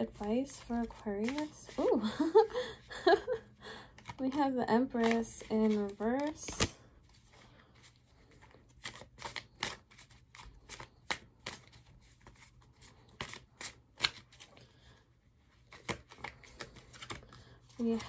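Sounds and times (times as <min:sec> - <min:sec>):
cards shuffled by hand: 0:00.0 - 0:18.0.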